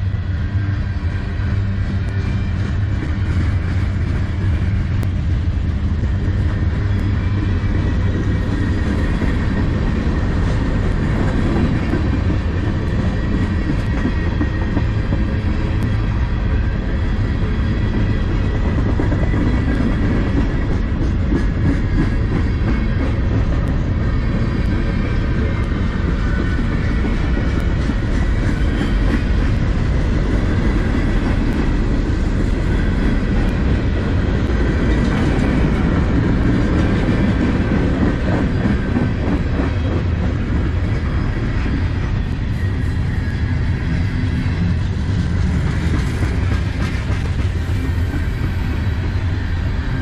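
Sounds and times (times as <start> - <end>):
train wheels rolling on rails: 0.0 - 50.0.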